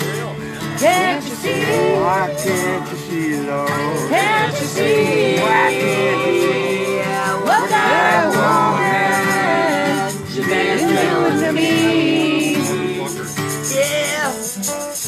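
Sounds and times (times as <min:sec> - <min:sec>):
acoustic guitar strumming: 0:00.0 - 0:15.0
voices singing along: 0:00.4 - 0:14.5.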